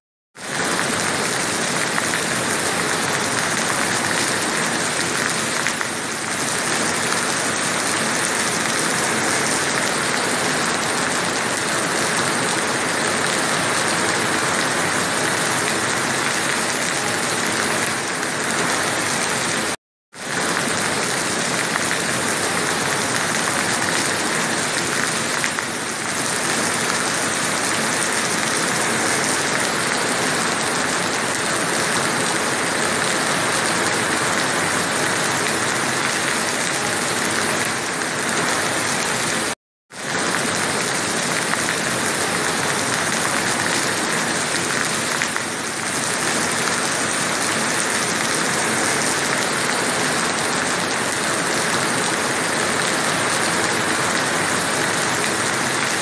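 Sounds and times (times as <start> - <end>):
heavy rain: 0.4 - 56.0.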